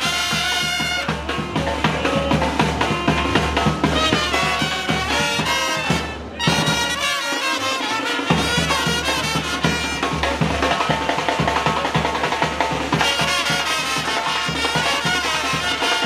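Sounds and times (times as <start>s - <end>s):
trumpets and trombones: 0.0s - 12.0s, 12.9s - 16.0s
drums: 0.0s - 16.0s.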